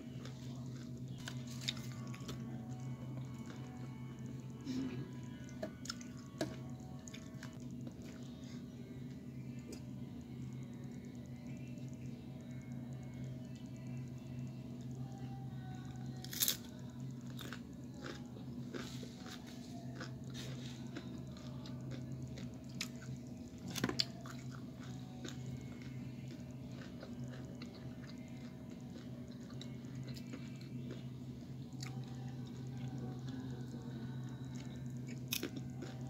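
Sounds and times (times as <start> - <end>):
chewing crisp tortilla chips: 0.0 - 36.0
steady low hum: 0.0 - 36.0.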